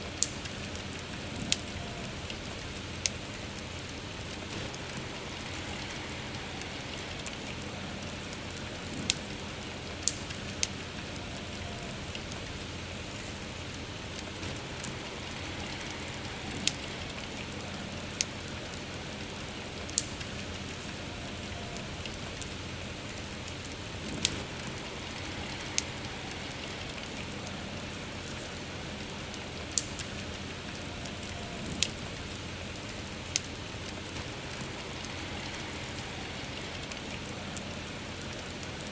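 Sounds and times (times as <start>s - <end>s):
campfire crackling and popping: 0.0s - 38.9s
steady rain: 0.0s - 38.9s.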